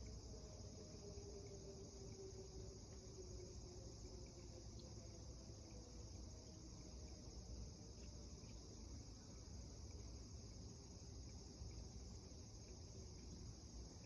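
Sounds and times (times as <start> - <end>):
faint high insect chorus: 0.0 - 14.0
low background rumble: 0.0 - 14.0.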